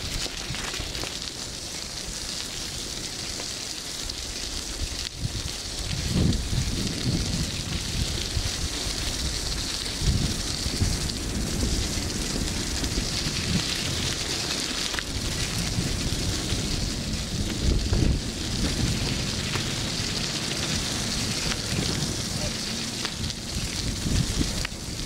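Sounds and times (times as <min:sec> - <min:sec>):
steady hiss: 0:00.0 - 0:25.0
wind buffeting the microphone: 0:04.1 - 0:25.0.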